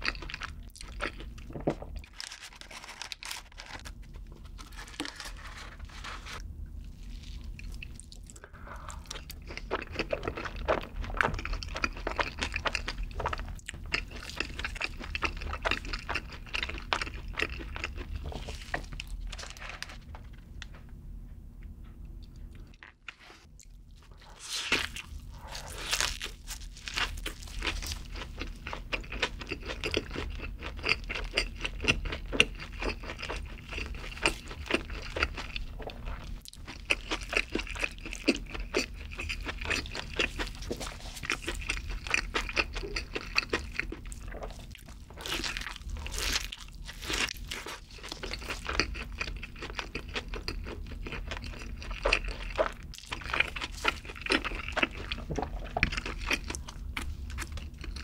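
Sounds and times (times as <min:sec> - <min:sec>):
crunchy chewing: 0:00.0 - 0:20.1, 0:22.2 - 0:58.0.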